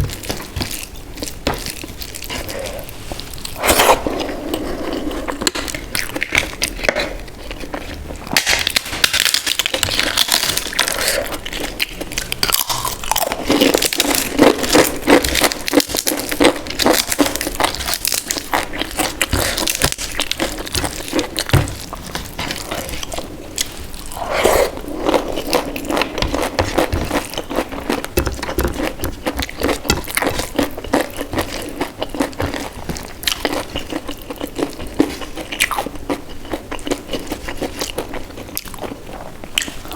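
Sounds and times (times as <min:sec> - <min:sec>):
person crunching crisp food: 0:00.0 - 0:39.9.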